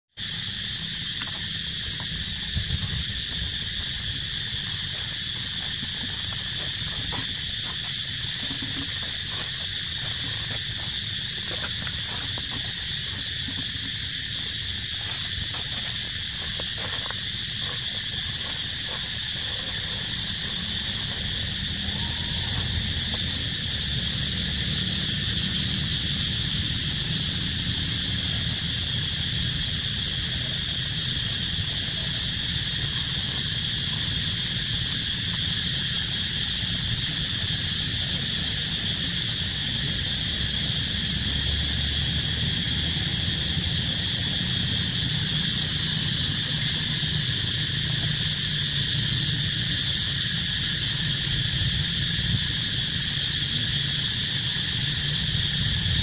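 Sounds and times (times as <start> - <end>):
high-pitched insect chorus: 0.1 - 56.0.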